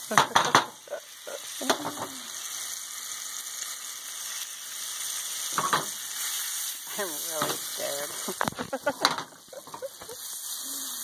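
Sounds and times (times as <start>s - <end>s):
mushroom sizzling in butter: 0.0s - 11.0s.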